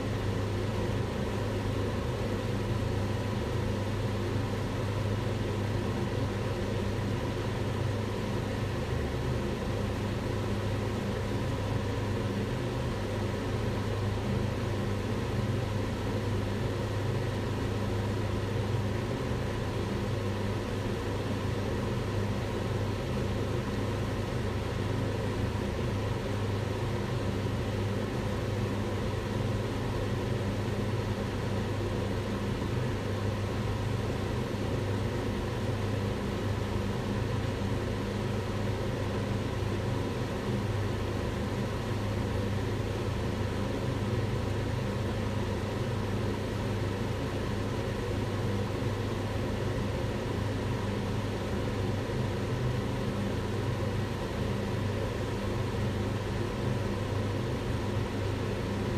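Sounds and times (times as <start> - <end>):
range hood fan running: 0.0 - 58.9.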